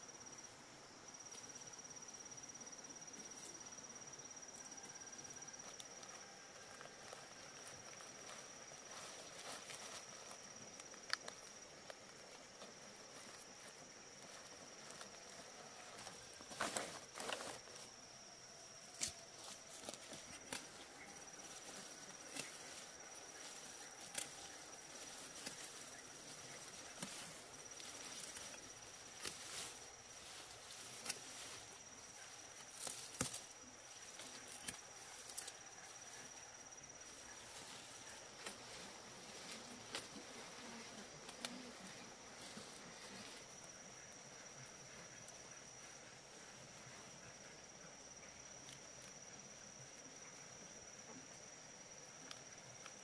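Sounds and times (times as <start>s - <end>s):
high-pitched insect trill: 0.0s - 53.0s.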